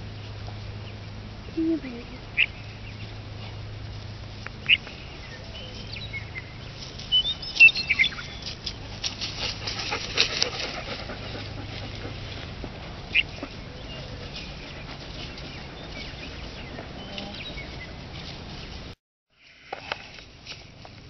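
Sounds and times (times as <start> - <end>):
birds chirping: 0.0 - 18.9
steady low hum: 0.0 - 21.0.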